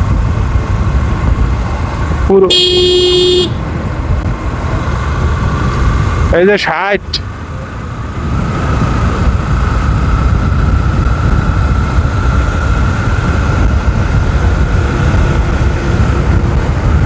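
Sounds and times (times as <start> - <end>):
motorcycle engine: 0.0 - 17.0
road noise: 0.0 - 17.0
wind rush: 0.0 - 17.0.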